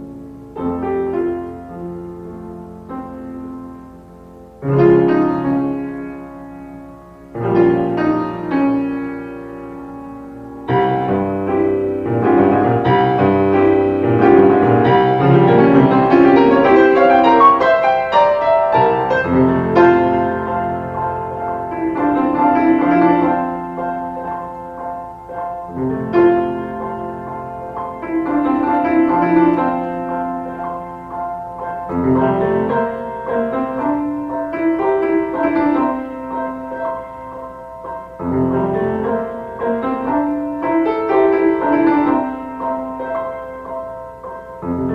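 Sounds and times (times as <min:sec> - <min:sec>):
slow piano music: 0:00.0 - 0:44.9.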